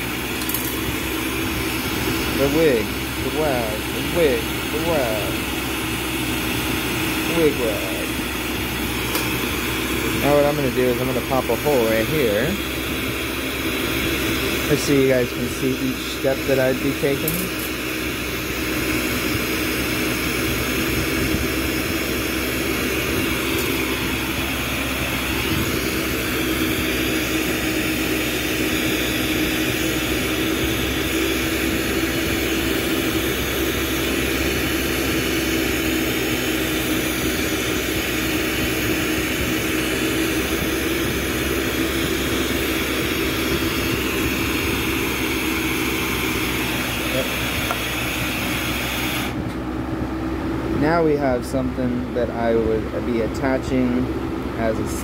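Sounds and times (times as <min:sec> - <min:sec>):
torch hissing: 0:00.0 - 0:49.4.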